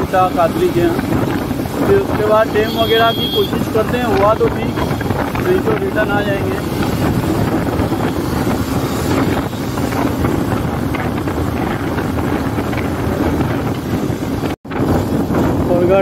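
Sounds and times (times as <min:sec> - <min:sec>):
motorcycle engine running: 0:00.0 - 0:16.0
road noise: 0:00.0 - 0:16.0
wind buffeting microphone: 0:00.0 - 0:16.0.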